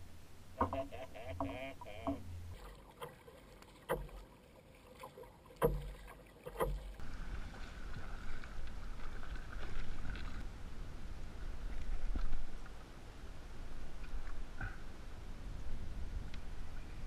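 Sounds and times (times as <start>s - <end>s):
wind and water hiss on hull: 0.0s - 17.0s.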